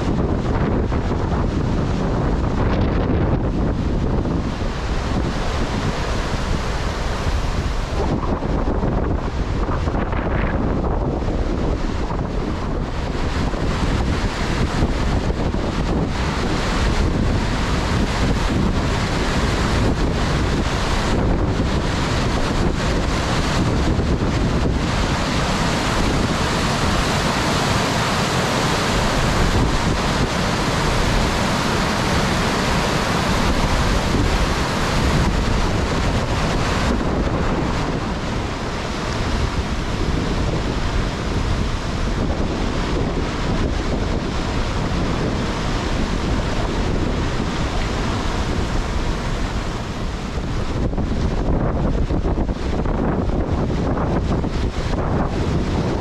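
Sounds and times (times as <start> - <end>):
rushing river water: 0.0 - 56.0
wind buffeting microphone: 0.0 - 56.0.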